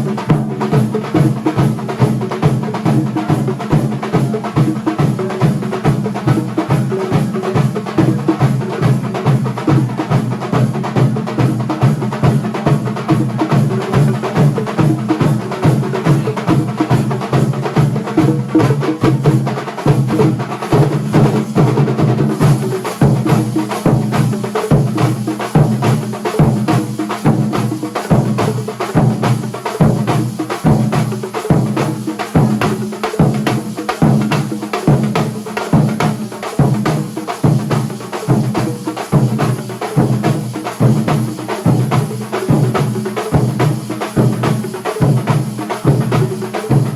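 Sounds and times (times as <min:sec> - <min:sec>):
fast percussion band drumming: 0:00.0 - 0:46.9.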